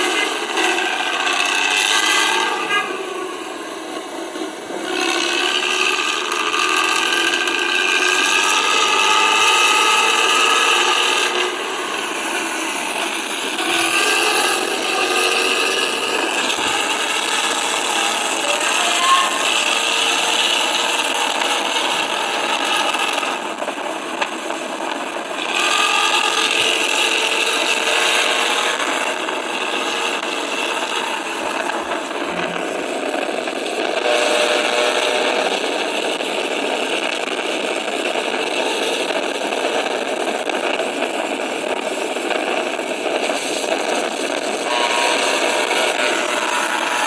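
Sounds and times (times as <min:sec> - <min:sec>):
bus engine accelerating: 0:00.0 - 0:40.4, 0:41.1 - 0:47.0
road and traffic noise: 0:00.0 - 0:47.0.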